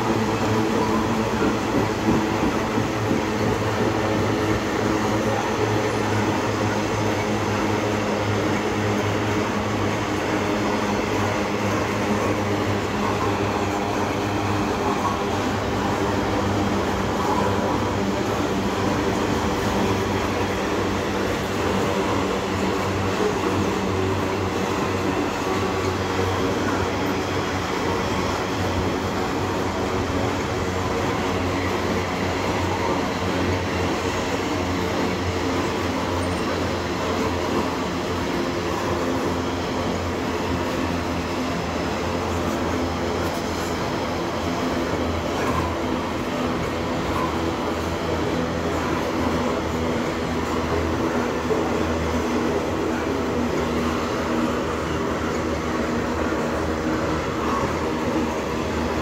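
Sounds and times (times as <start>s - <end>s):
freight wagon wheels on rails: 0.0s - 59.0s.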